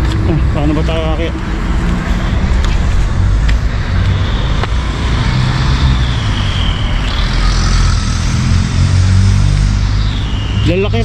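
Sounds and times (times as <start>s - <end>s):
low rumble: 0.0s - 11.0s
faint high whine: 0.3s - 11.0s.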